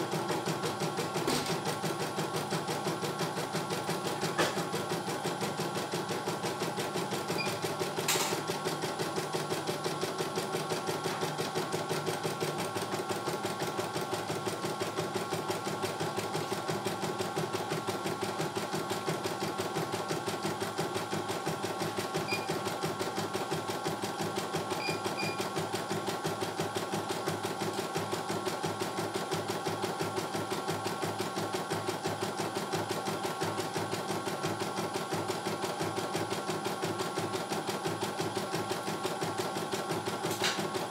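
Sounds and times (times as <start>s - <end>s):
embroidery machine stitching: 0.0s - 40.9s.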